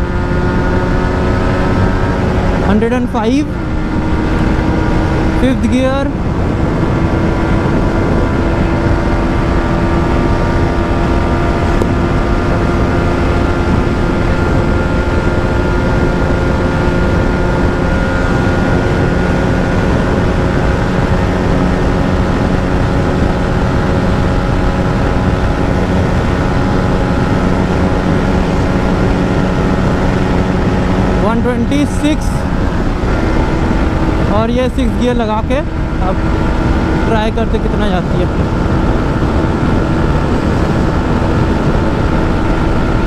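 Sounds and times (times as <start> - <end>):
motorcycle engine at high revs: 0.0 - 43.0
wind rushing over microphone: 0.0 - 43.0.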